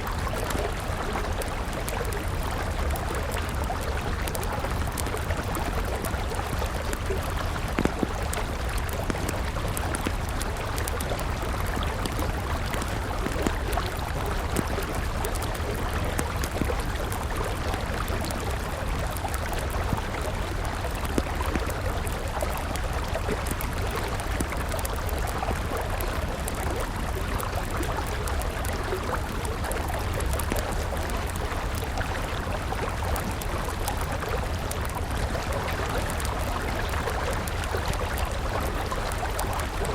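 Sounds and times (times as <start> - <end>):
campfire crackling: 0.0 - 39.9
river water flowing: 0.0 - 39.9.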